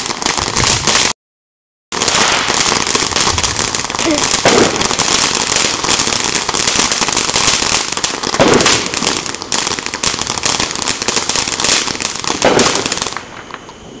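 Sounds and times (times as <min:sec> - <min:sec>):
fountain fireworks crackling: 0:00.0 - 0:01.2, 0:02.0 - 0:14.0.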